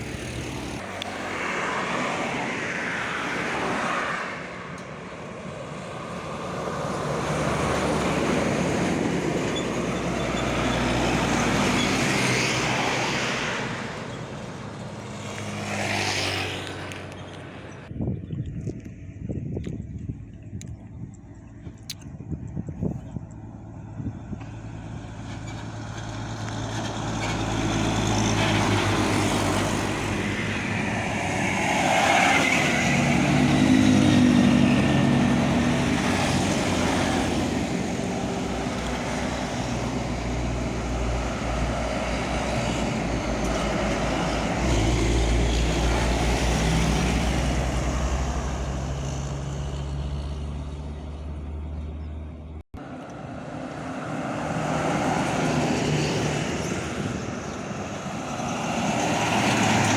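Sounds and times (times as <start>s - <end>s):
heavy trucks passing: 0.0s - 18.1s, 20.2s - 59.9s.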